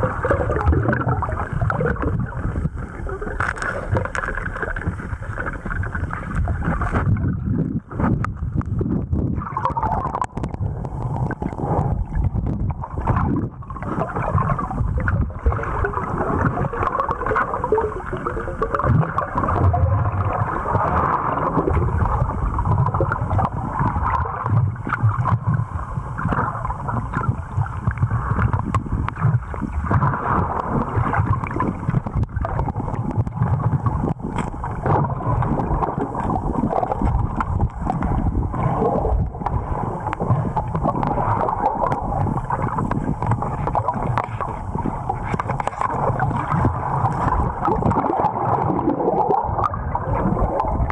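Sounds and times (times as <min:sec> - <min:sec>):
muffled rushing water: 0:00.0 - 0:50.9.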